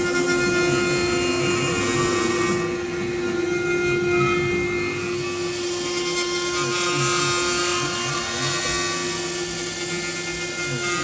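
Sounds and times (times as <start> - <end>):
axis motors humming: 0.0 - 11.0
router spindle whine: 0.0 - 11.0.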